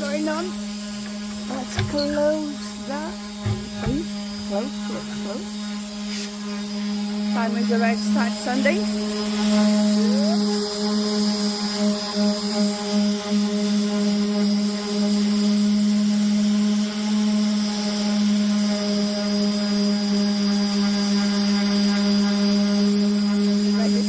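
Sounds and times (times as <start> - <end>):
electric sander running: 0.0 - 24.0.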